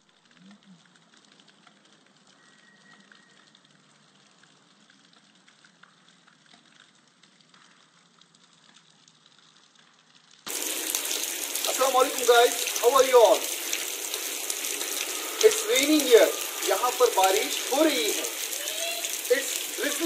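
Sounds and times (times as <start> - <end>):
faint rain on wet ground: 0.0 - 20.0.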